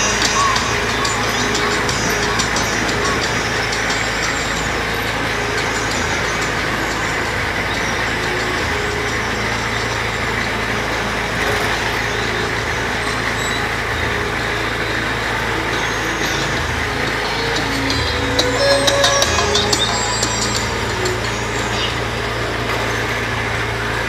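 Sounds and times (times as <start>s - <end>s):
kiddie ride car running on track: 0.0s - 24.0s.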